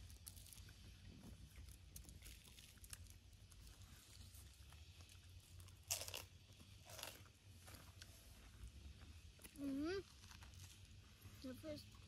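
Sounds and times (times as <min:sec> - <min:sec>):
rustle or crackle: 0:00.0 - 0:12.0.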